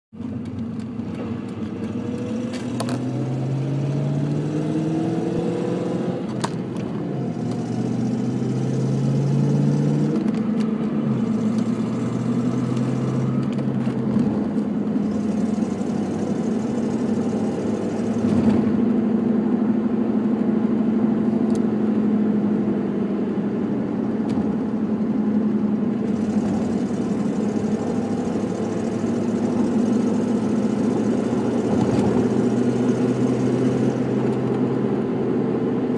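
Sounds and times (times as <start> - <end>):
car engine accelerating: 0.2 - 35.9.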